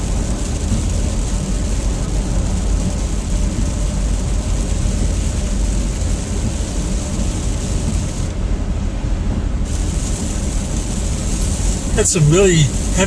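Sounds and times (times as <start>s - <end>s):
tyres hissing on wet pavement: 0.0s - 8.8s, 9.5s - 13.0s
engine and tyre rumble: 0.0s - 13.0s.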